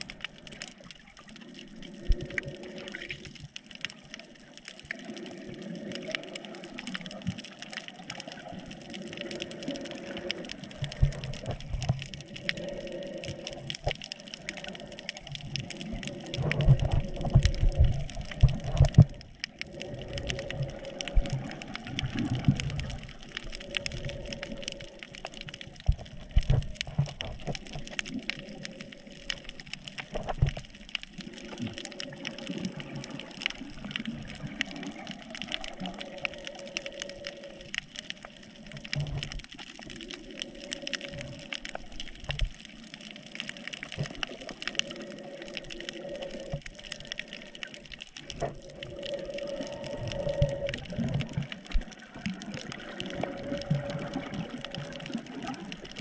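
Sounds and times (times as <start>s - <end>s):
small crackling clicks: 0.0s - 56.0s
water sloshing and gushing: 0.0s - 56.0s.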